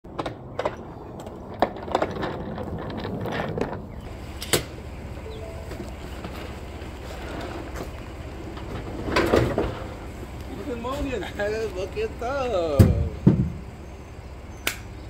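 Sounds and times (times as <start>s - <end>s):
low steady rumble: 0.1s - 15.0s.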